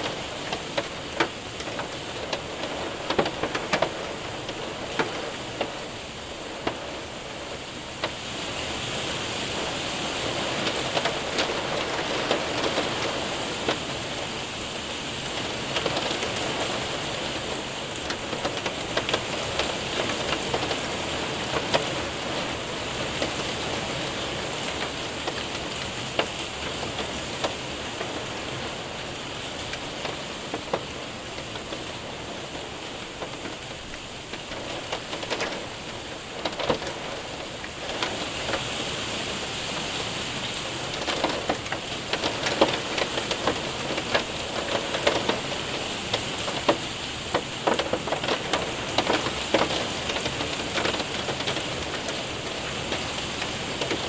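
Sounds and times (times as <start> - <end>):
hailstones ticking: 0.0 - 54.0
rain on window and roof: 0.0 - 54.0.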